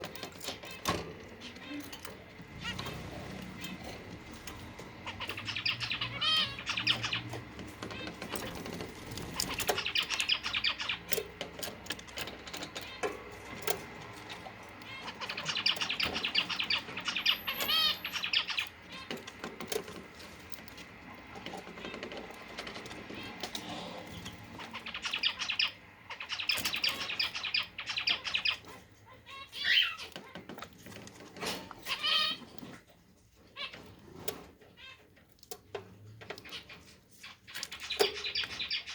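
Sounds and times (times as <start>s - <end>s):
finches twittering: 0.0s - 30.2s, 36.4s - 38.9s.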